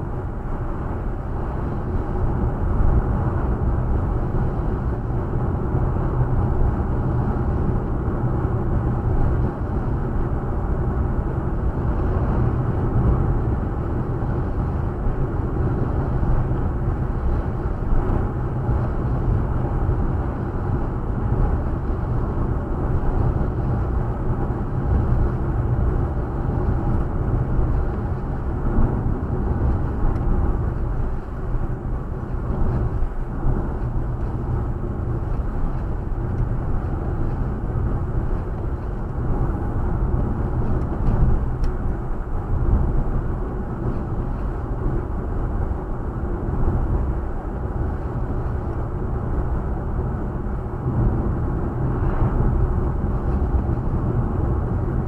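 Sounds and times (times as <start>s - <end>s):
car road and engine noise: 0.0s - 55.0s.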